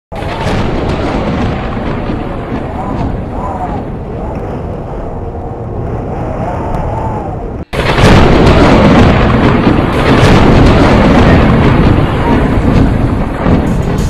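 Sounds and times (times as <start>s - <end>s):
explosion-like rush: 0.1s - 14.0s
low rumble: 0.1s - 14.0s.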